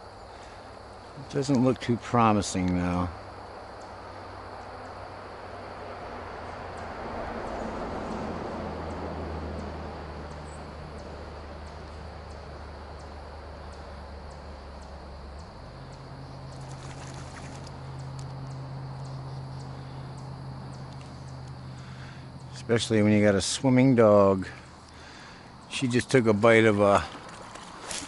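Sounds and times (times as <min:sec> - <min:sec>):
passing vehicle engine hum: 0:00.0 - 0:28.0.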